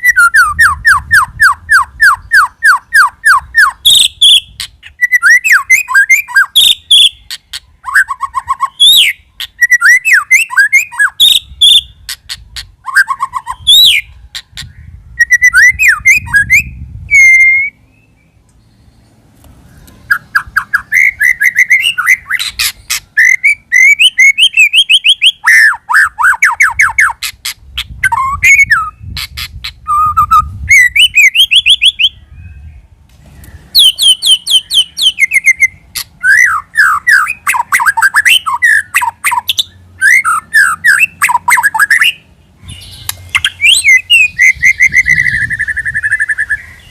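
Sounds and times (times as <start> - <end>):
bird singing whistled phrases and trills: 0.0 - 19.1, 19.7 - 46.9.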